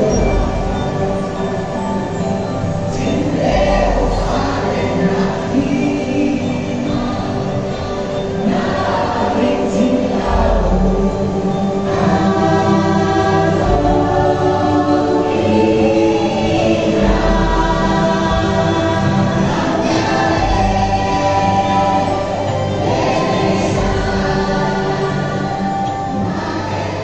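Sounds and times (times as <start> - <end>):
choir singing held chords: 0.0 - 27.0.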